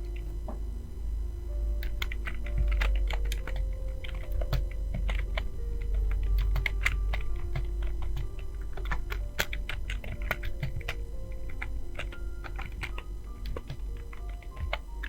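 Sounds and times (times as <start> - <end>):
fast typing on keyboard: 1.8 - 15.0.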